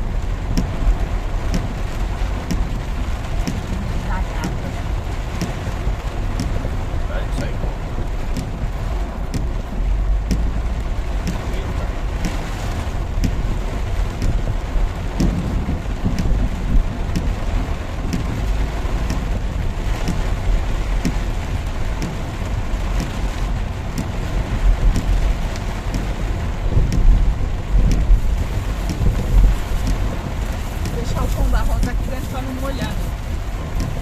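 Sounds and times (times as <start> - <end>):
heavy rain pouring: 0.0 - 34.0
raindrops ticking close by: 0.0 - 34.0.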